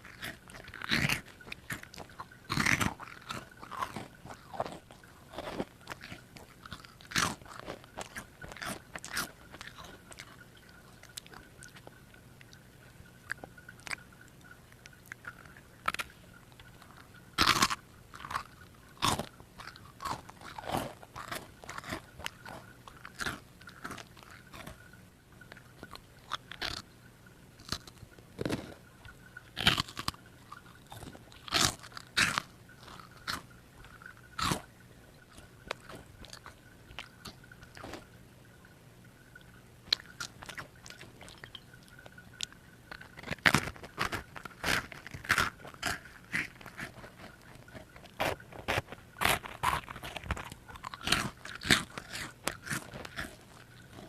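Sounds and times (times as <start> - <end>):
child chewing crunchy snack: 0.0 - 54.0.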